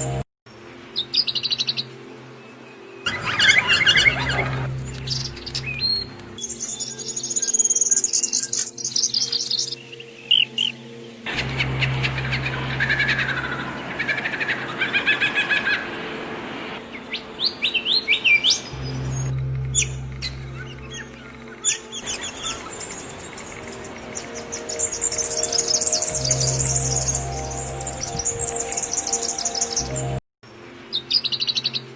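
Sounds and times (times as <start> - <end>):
songbirds chirping and singing: 0.9 - 16.0, 16.8 - 30.2.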